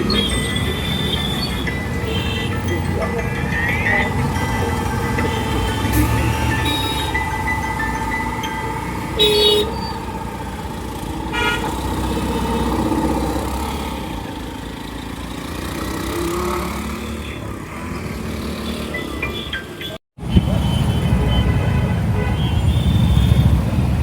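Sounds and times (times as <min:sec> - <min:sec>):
vehicle horns honking: 0:00.0 - 0:14.4, 0:16.0 - 0:23.8
road traffic noise: 0:00.0 - 0:24.0.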